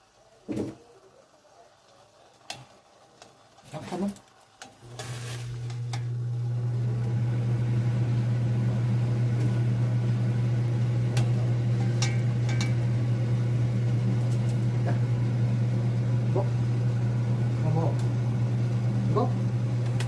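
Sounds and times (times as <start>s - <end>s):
range hood fan humming: 3.9s - 20.0s.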